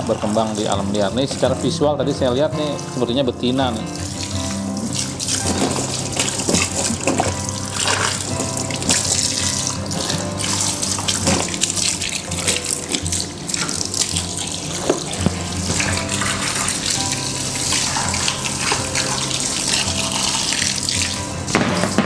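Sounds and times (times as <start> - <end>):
background music: 0.0 - 22.0
hose water splashing into tub: 0.0 - 22.0.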